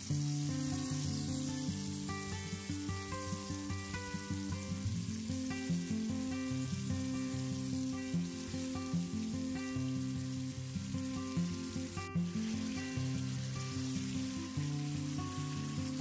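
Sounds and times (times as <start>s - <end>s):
background music melody: 0.0s - 16.0s
chilli paste sizzling in pan: 0.0s - 16.0s.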